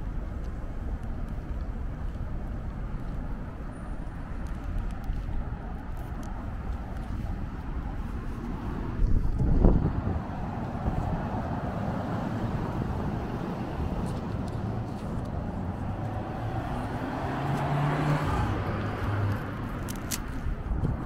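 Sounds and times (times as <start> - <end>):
rumble of passing cars: 0.0 - 21.0
vehicle engine hum: 0.0 - 21.0.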